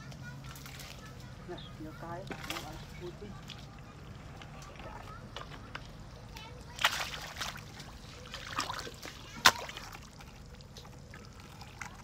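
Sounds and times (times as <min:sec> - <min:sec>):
muddy water trickling and splashing: 0:00.2 - 0:12.0.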